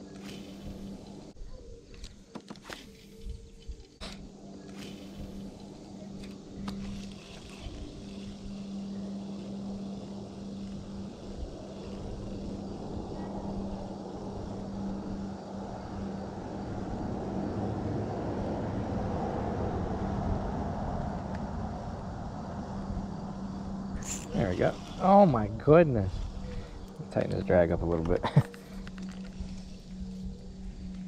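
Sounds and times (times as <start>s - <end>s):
engine drone: 0.0s - 1.4s, 2.7s - 31.0s.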